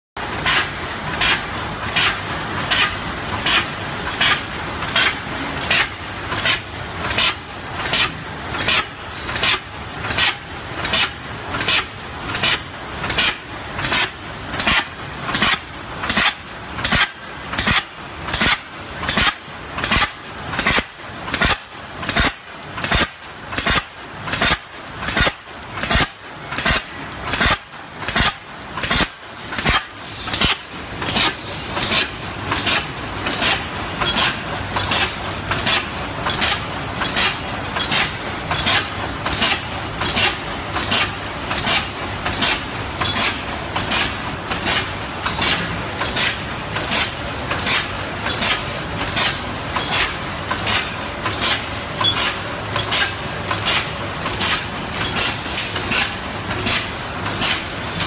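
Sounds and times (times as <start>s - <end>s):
mechanical running noise: 0.2s - 58.0s.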